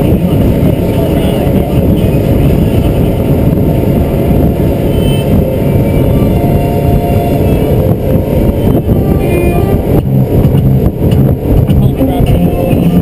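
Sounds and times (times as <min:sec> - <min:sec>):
motorboat engine: 0:00.0 - 0:13.0
wind buffeting microphone: 0:00.0 - 0:13.0.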